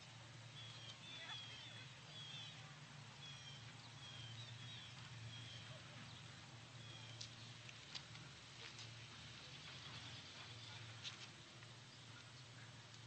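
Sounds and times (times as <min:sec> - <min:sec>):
faint bird chirping: 0:00.5 - 0:07.7, 0:09.1 - 0:13.0.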